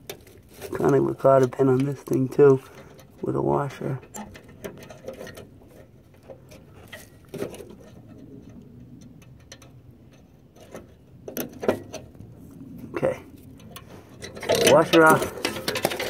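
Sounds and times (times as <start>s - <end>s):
small metal clicks: 0.0s - 12.3s, 13.4s - 16.0s.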